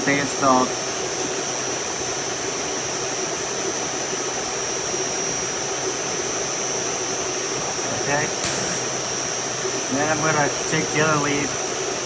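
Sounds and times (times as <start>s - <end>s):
air-conditioning blower rush: 0.0s - 12.0s
high-pitched whine: 0.0s - 12.0s.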